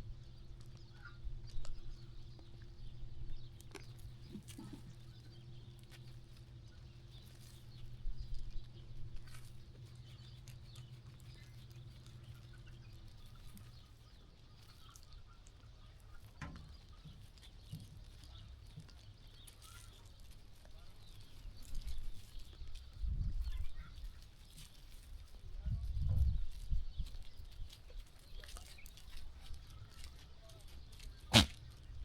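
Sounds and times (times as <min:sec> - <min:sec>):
sheep shuffling and hoof steps: 0:00.1 - 0:32.0.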